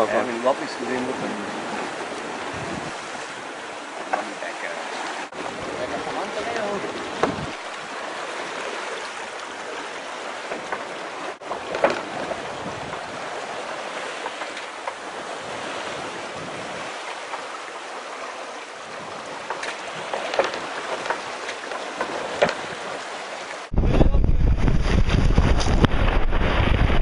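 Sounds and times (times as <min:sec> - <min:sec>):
water rushing past hull: 0:00.0 - 0:27.0
water splashes: 0:00.0 - 0:27.0.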